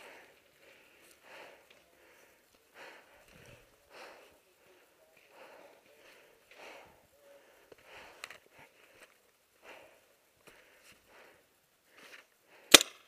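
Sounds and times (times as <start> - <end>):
faint fast breathing: 0.0 - 12.8.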